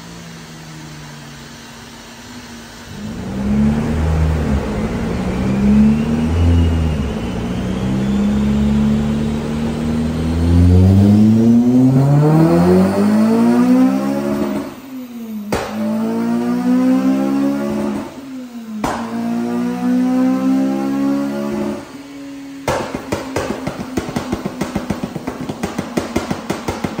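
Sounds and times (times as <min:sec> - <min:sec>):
car engine revving: 0:02.8 - 0:27.0.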